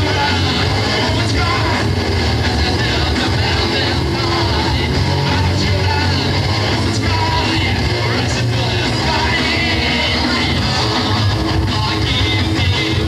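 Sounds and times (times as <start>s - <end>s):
bass guitar: 0.0s - 13.0s
drums: 0.0s - 13.0s
electric guitar: 0.0s - 13.0s.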